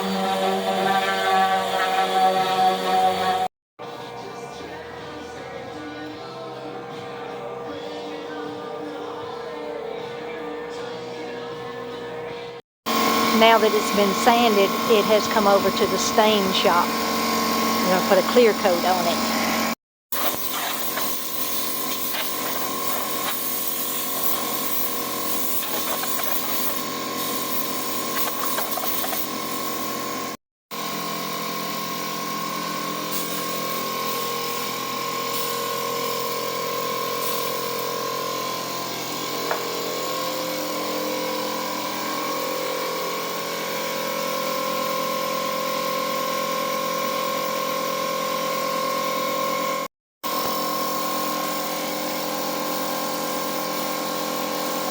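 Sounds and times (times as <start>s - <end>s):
paint sprayer motor whine: 0.0s - 3.5s, 12.9s - 54.9s.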